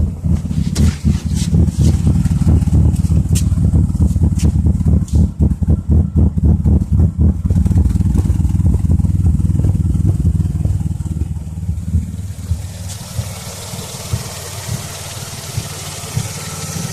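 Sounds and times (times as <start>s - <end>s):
car engine idling roughly: 0.0s - 16.9s.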